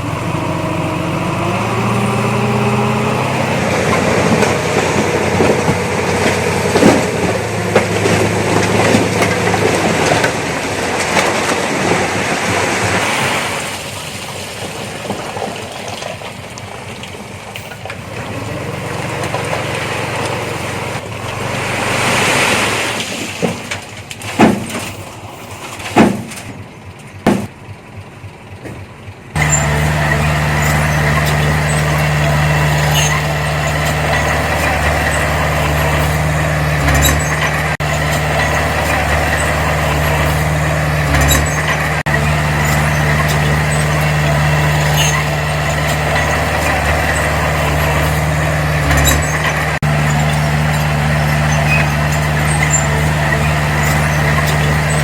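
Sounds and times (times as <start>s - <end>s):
diesel engine running steadily: 0.0s - 55.0s
earthmoving machinery engine noise: 0.0s - 55.0s.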